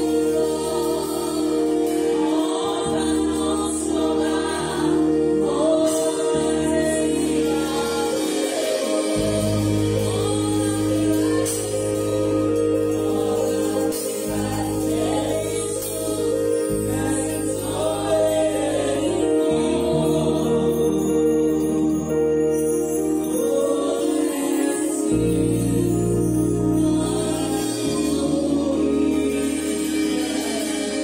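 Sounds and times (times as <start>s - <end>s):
woman singing gospel song: 0.0s - 22.2s, 23.1s - 31.0s
electronic keyboard chords: 0.0s - 31.0s.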